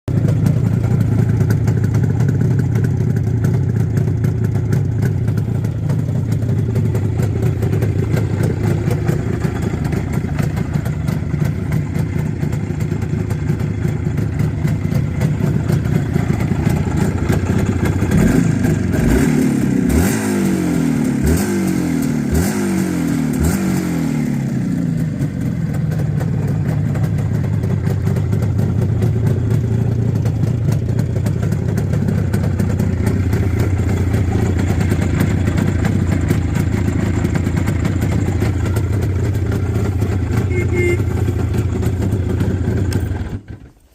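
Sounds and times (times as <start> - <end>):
motorcycle engine idling and revving: 0.1 - 43.9.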